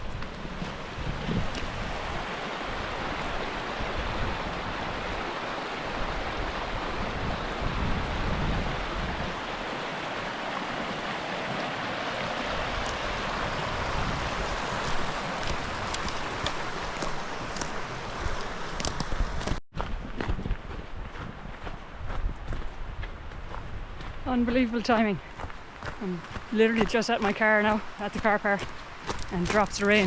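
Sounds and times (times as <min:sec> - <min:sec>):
wind buffeting microphone: 0:00.0 - 0:11.2, 0:11.8 - 0:30.0.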